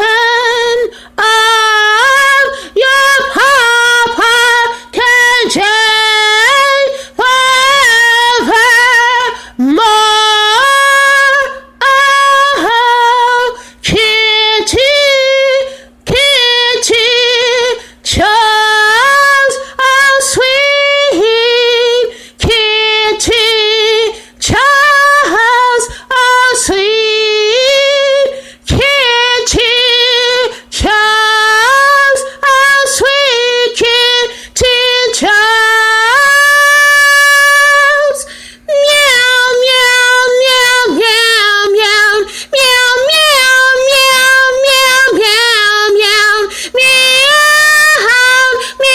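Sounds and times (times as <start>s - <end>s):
faint steady hum: 0.0s - 48.9s
woman singing unaccompanied: 0.0s - 48.9s.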